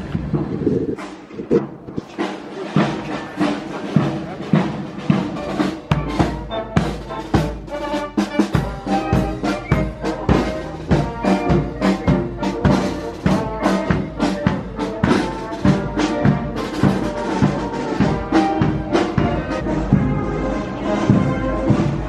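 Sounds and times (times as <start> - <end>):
brass band playing a march: 2.0 - 22.0.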